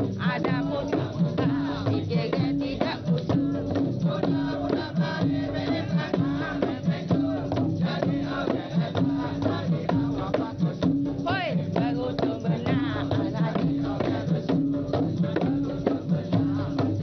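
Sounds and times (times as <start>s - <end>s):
drums beating busy rhythm: 0.0s - 17.0s
group chanting: 0.2s - 11.1s, 11.7s - 17.0s.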